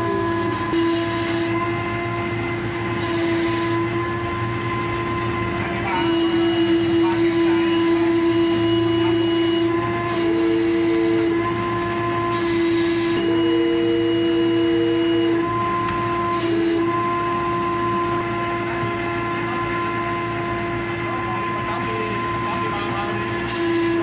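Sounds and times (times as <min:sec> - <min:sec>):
higher machine tone: 0:00.0 - 0:24.0
hoist machinery whine: 0:00.0 - 0:24.0.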